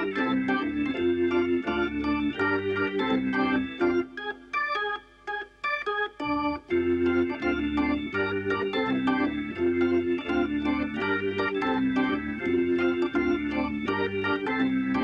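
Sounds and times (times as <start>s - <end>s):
bass line: 0.0s - 4.0s, 6.3s - 15.0s
organ melody: 0.0s - 15.0s.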